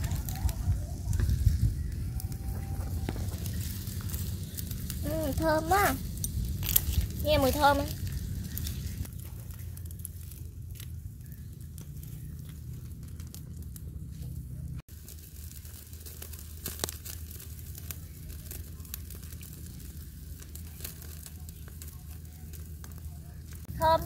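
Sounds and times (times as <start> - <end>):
fire crackling and popping: 0.0 - 24.0
low rumble: 0.0 - 24.0.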